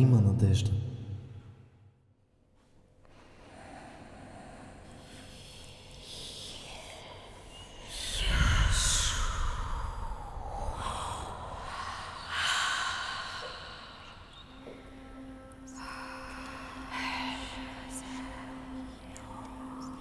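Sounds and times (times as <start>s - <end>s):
breathy whooshing swells: 3.1s - 20.0s
low steady tone: 3.5s - 20.0s.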